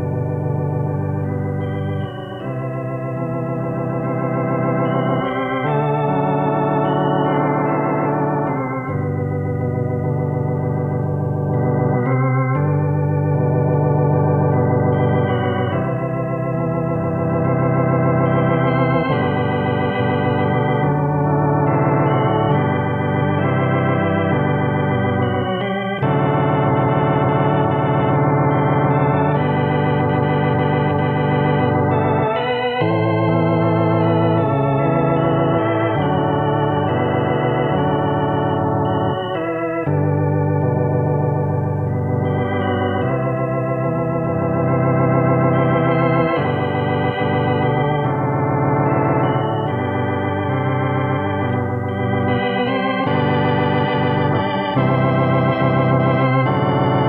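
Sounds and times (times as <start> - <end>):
organ playing gospel chords: 0.0 - 57.0.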